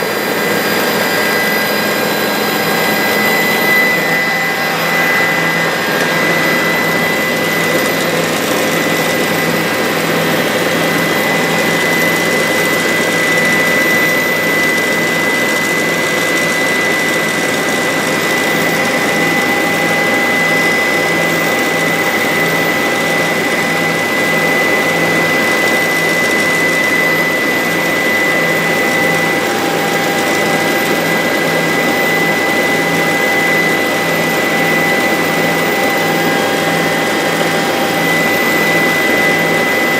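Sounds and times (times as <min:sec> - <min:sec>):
helicopter turbine and rotor noise: 0:00.0 - 0:39.9.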